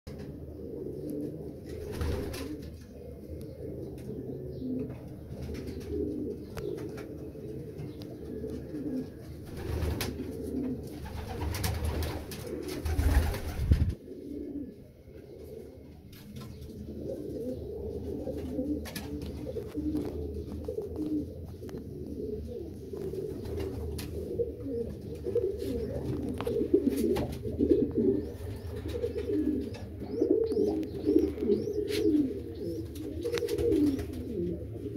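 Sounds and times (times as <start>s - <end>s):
pigeons cooing: 0.1s - 34.9s.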